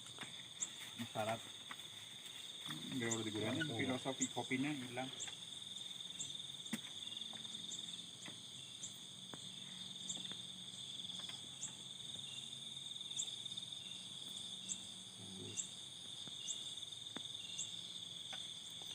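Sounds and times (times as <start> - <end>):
crickets chirring: 0.0 - 18.9.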